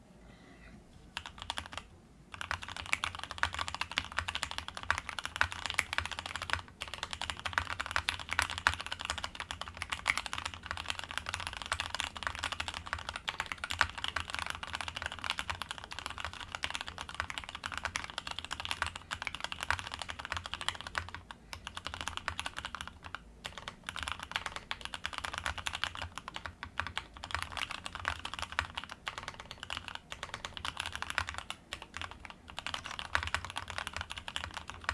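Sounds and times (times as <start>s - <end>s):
fast mechanical keyboard typing: 1.2s - 34.9s.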